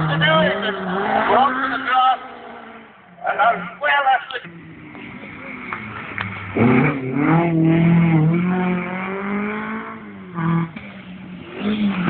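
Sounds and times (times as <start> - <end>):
rally car engine revving: 0.0 - 3.8, 4.5 - 12.0.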